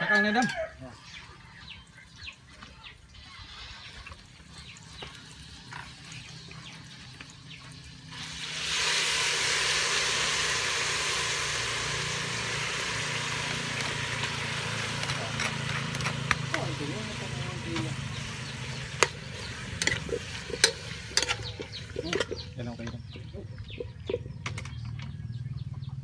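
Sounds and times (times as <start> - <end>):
pot sizzling and bubbling: 0.5 - 24.3.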